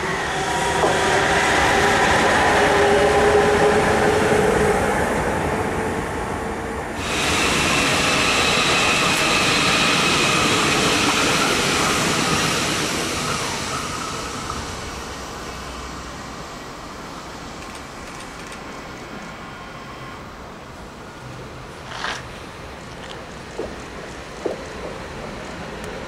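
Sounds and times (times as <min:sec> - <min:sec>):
electric locomotive whine: 0:00.0 - 0:26.0
high-speed train rushing past: 0:00.0 - 0:26.0.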